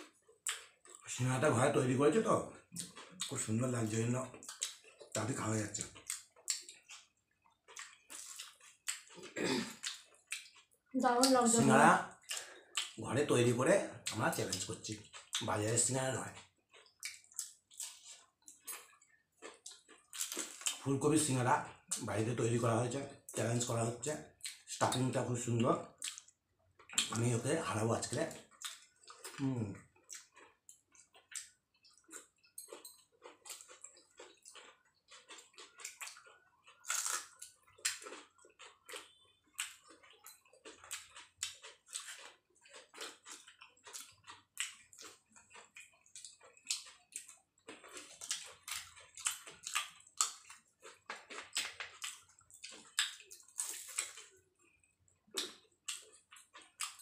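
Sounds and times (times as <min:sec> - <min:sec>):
people crunching fried food: 0:00.0 - 0:57.0.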